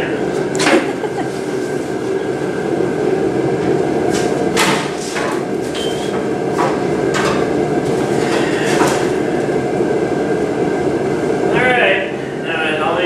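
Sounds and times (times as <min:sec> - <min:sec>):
steady loud noise: 0:00.0 - 0:13.0.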